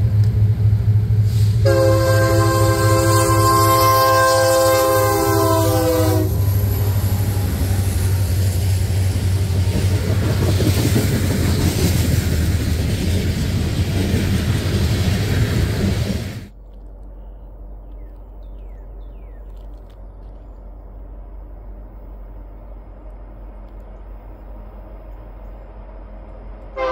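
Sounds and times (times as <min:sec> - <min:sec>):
diesel locomotive engine drone: 0:00.0 - 0:26.9
train cars rumbling over rails: 0:00.0 - 0:26.9.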